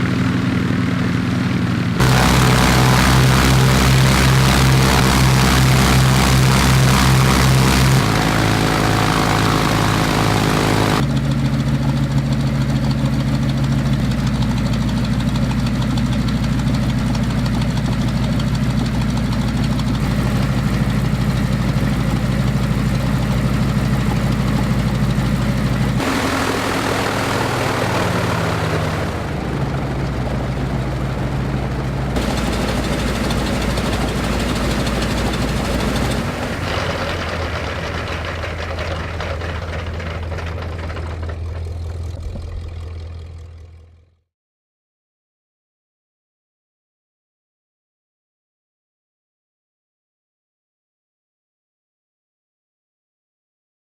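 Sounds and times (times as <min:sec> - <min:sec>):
radial aircraft engine running: 0:00.0 - 0:43.9.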